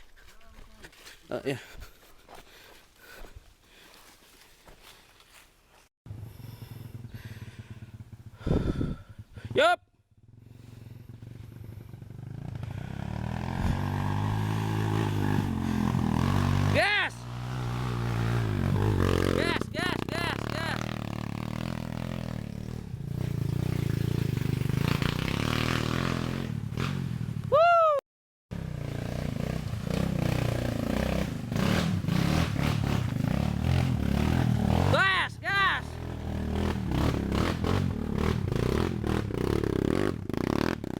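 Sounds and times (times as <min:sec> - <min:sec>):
dirt bike engine at low revs: 0:06.1 - 0:27.7, 0:28.5 - 0:40.9.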